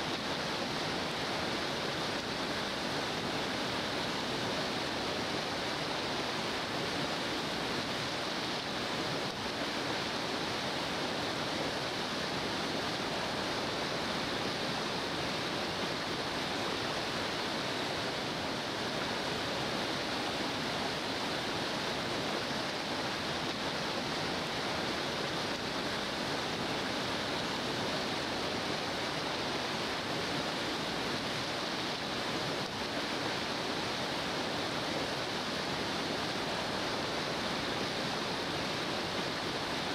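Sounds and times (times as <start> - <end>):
river rapids rushing over rocks: 0.0 - 39.9.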